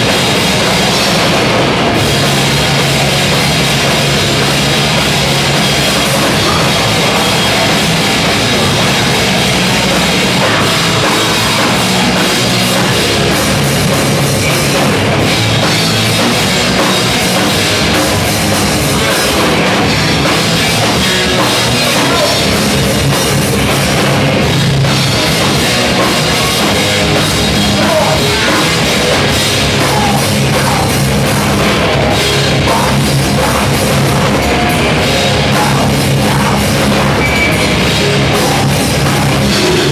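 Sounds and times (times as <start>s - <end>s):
loud rock music with drums: 0.0s - 39.9s.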